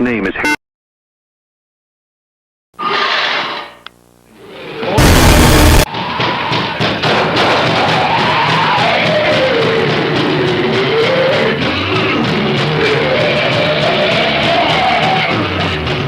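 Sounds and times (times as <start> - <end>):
harsh distorted wailing noise: 3.0 - 16.0.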